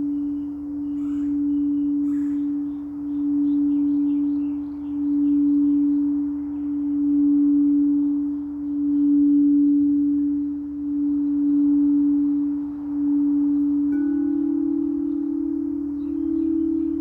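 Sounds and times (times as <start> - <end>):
singing bowl tone: 0.0 - 17.0.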